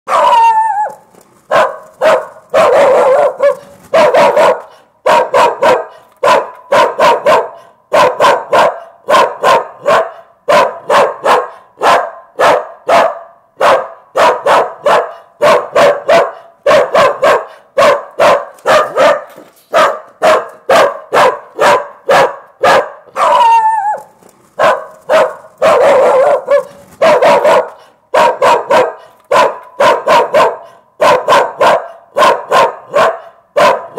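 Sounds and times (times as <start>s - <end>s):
dog barking: 0.1s - 33.9s.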